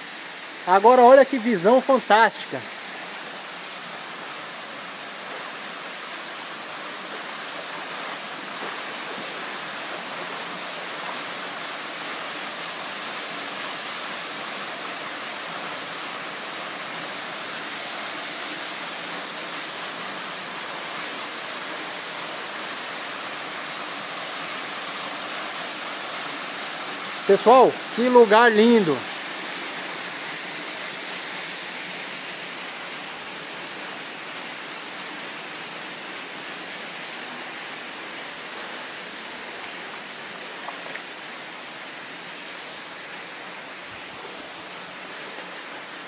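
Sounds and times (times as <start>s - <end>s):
waterfall roar: 0.0s - 46.0s.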